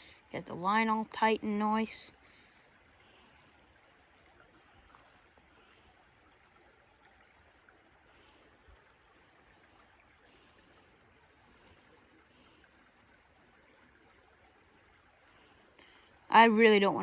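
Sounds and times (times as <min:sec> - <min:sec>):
small creek flowing: 0:00.0 - 0:17.0.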